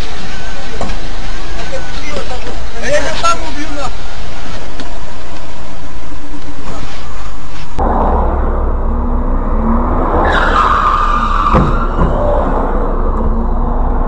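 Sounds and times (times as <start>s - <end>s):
tyres screeching: 0.0s - 5.4s, 6.0s - 14.0s
car engine rumble: 0.0s - 14.0s.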